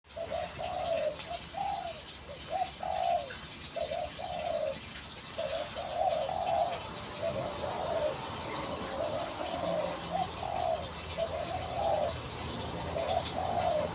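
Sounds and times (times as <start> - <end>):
dove cooing: 0.1 - 13.9.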